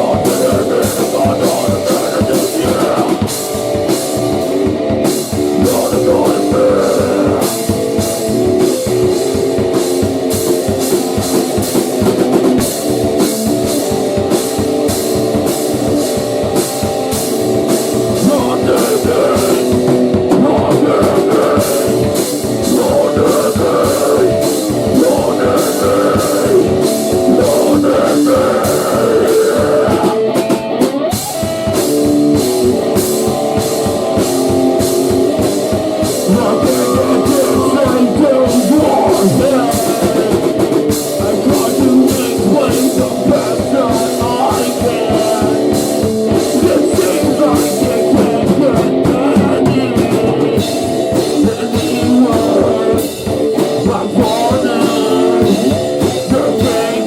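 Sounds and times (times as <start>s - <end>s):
distorted electric guitar chords: 0.0s - 57.0s
fast drum-kit beat: 0.0s - 57.0s.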